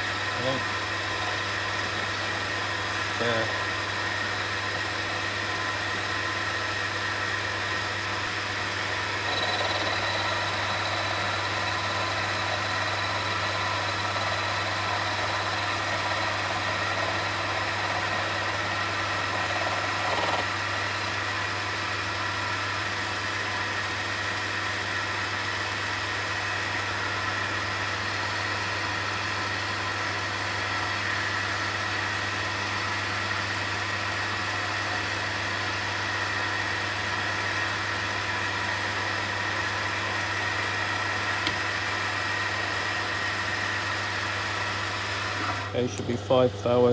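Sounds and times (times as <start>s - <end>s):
lathe running with low hum: 0.0s - 46.9s.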